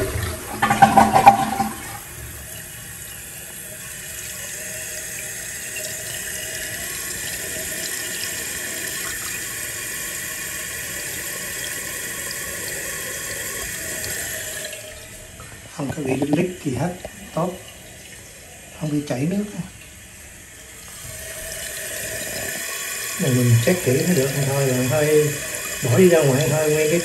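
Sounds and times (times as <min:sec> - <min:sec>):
tank refilling water hiss: 0:00.0 - 0:27.0
toilet flushing: 0:00.0 - 0:27.0.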